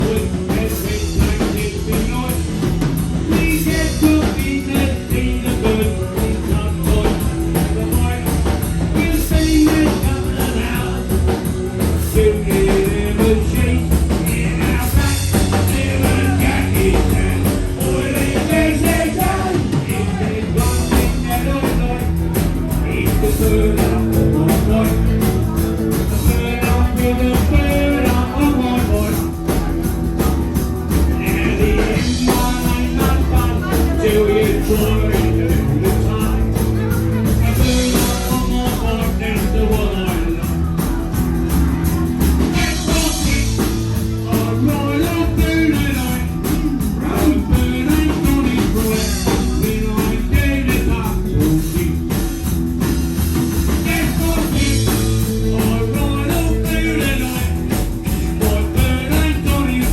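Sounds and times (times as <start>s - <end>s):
person singing: 0.0s - 52.4s, 53.6s - 59.9s
rock and roll band playing: 0.0s - 59.9s.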